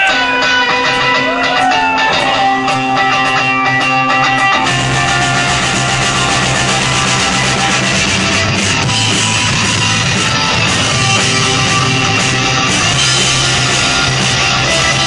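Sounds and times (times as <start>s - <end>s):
distorted electric guitar: 0.0s - 15.0s
drums: 0.0s - 15.0s.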